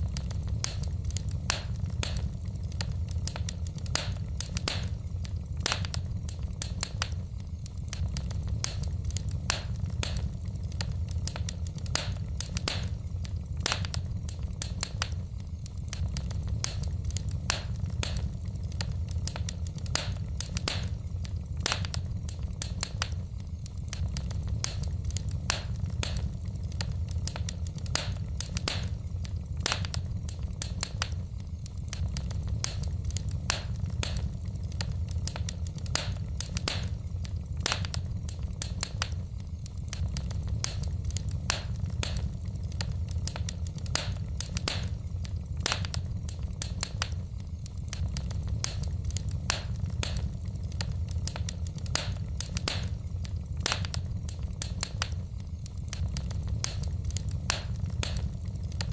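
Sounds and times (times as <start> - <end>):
low fire rumble: 0.0 - 58.9
wood fire crackling and popping: 0.0 - 58.9.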